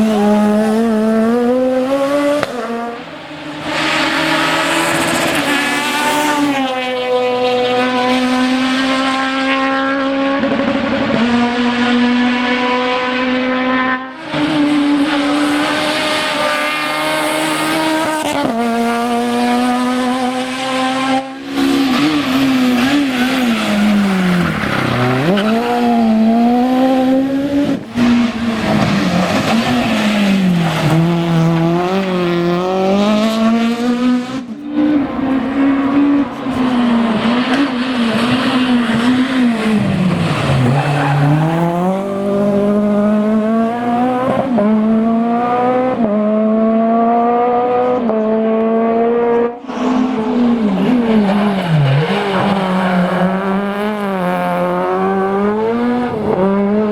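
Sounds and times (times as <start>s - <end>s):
rally car engine revving: 0.0s - 56.9s.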